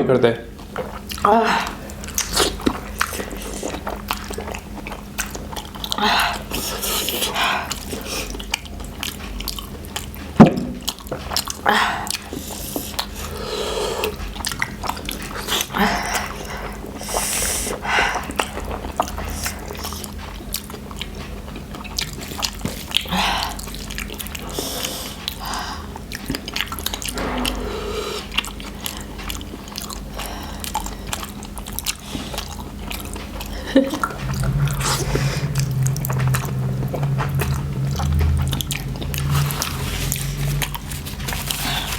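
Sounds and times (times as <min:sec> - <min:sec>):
steady low hum: 0:00.0 - 0:41.9
chewing and slurping noodles: 0:00.6 - 0:41.9.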